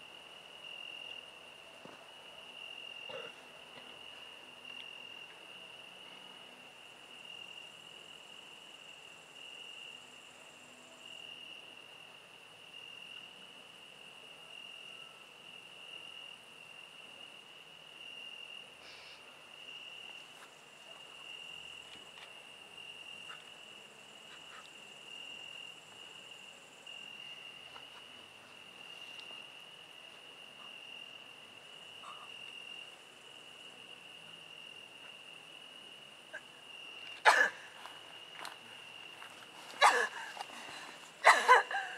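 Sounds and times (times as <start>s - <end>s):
crickets chirping: 0.0s - 41.9s
high-pitched insect song: 3.9s - 40.4s.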